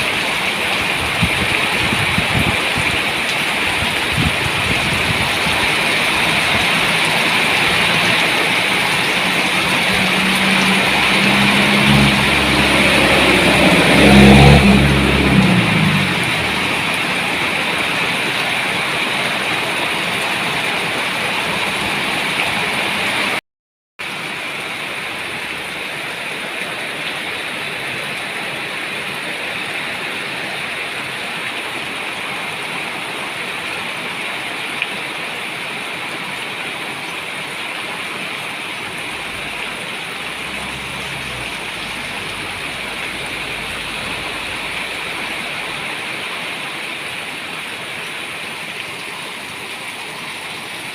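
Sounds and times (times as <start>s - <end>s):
steady rain falling: 0.0s - 23.4s, 24.0s - 50.9s.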